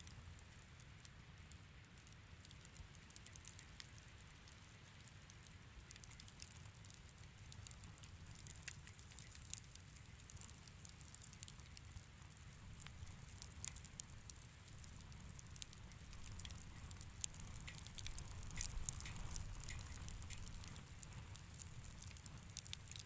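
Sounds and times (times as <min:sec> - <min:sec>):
faint wood fire crackling: 0:00.0 - 0:23.0.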